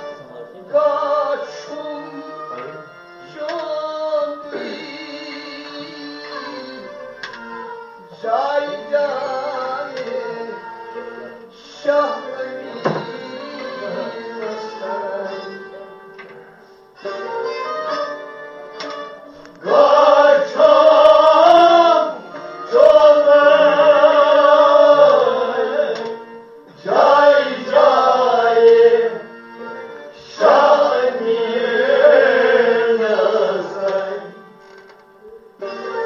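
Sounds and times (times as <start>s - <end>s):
instrumental accompaniment: 0.0s - 36.0s.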